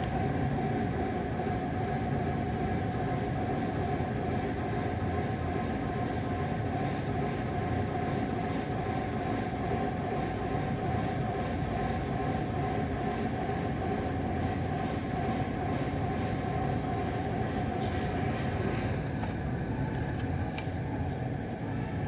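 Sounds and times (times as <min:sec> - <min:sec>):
mechanical rumble with hum: 0:00.0 - 0:22.0.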